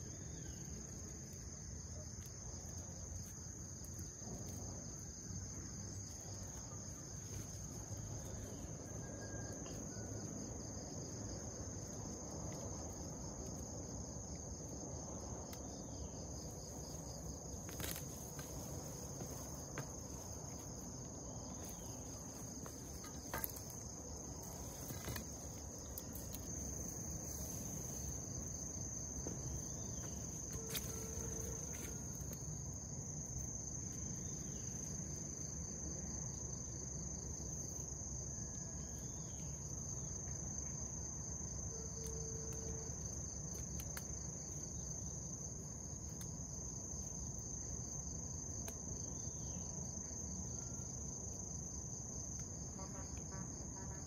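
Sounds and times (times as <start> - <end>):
insects buzzing trill: 0.0 - 54.0.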